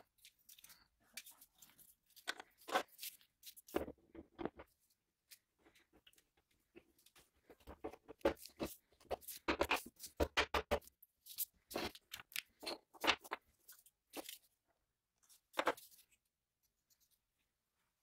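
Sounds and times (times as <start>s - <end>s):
gloved hands rustling and scraping: 0.0s - 14.6s.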